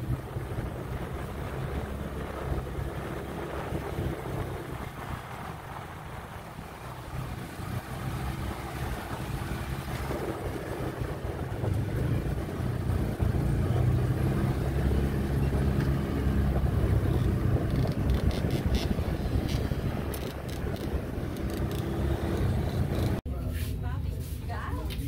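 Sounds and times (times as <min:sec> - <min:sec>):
vehicle engine running: 0:00.0 - 0:23.2.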